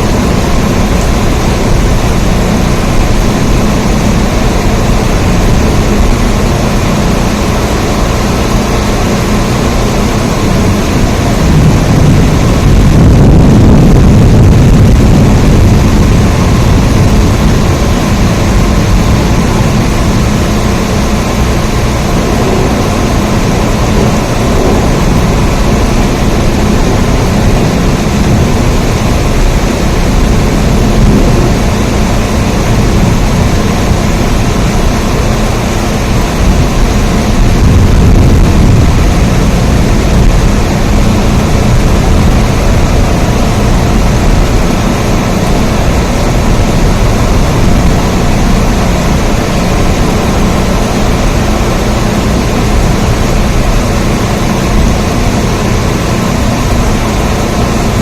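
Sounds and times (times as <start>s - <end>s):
heavy rain: 0.0s - 58.0s
deep low rumble: 8.1s - 58.0s.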